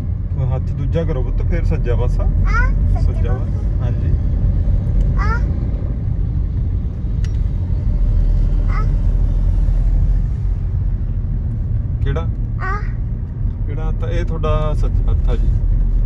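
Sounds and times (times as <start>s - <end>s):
car driving rumble from inside: 0.0s - 16.0s.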